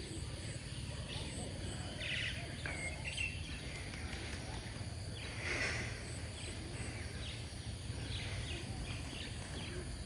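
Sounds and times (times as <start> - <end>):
faint bird calls: 0.0 - 10.0
insects: 0.0 - 10.0.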